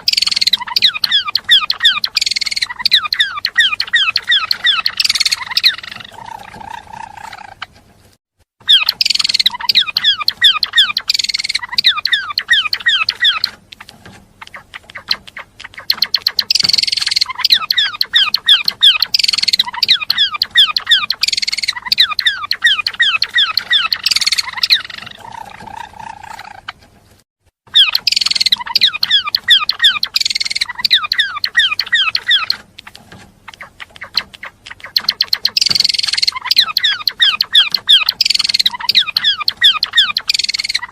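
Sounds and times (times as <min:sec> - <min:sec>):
songbird singing rapid high notes: 0:00.0 - 0:07.4, 0:08.6 - 0:13.6, 0:14.4 - 0:26.4, 0:27.7 - 0:32.7, 0:33.5 - 0:40.9.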